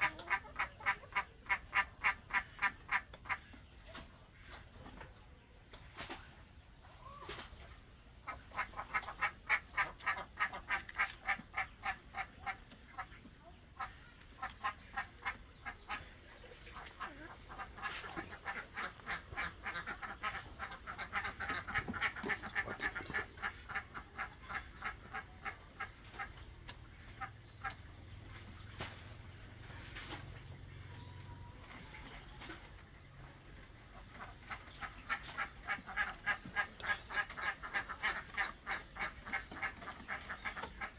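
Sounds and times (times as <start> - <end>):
ducks quacking: 0.0 - 5.1, 6.9 - 40.9.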